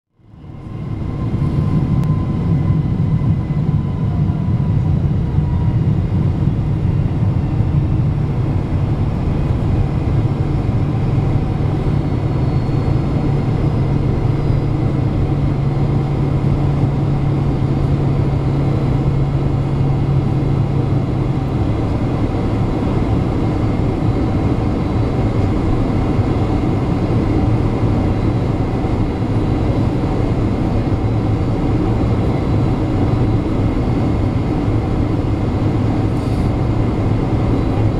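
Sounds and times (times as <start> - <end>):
jet engines rumbling in cabin: 0.1 - 37.9
low hum: 0.2 - 37.9.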